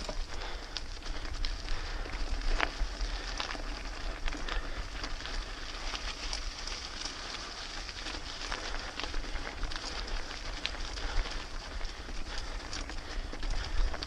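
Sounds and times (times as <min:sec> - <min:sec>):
bike tyres rolling on muddy trail: 0:00.0 - 0:14.0
grit and gravel crackling: 0:00.0 - 0:14.0.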